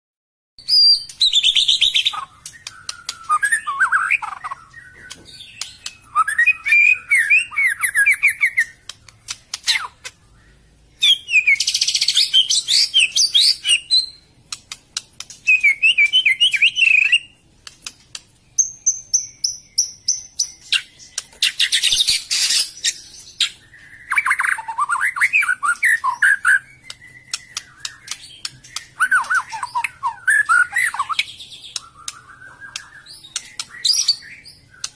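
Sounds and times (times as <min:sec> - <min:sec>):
songbird whistling and chattering: 0:00.6 - 0:34.9.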